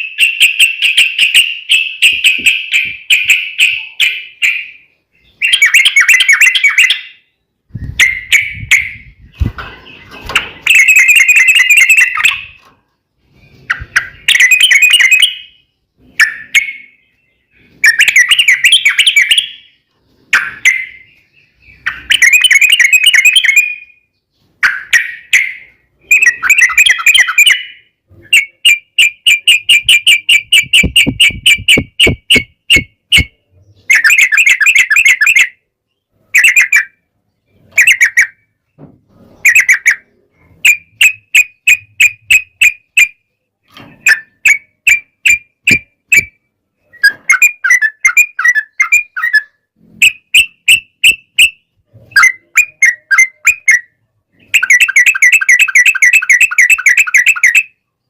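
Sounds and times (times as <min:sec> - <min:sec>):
bird sharp repeated notes: 0:00.0 - 0:12.7, 0:13.3 - 0:43.4, 0:44.0 - 0:57.9.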